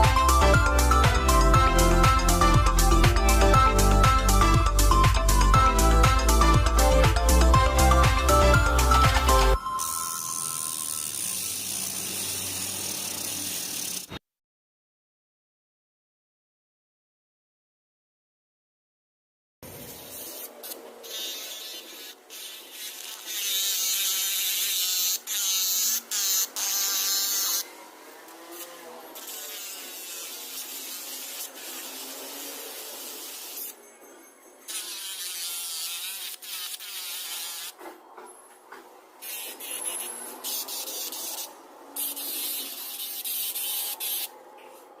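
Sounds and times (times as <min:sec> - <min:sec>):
angle grinder whining: 0:00.0 - 0:14.1, 0:20.4 - 0:44.8.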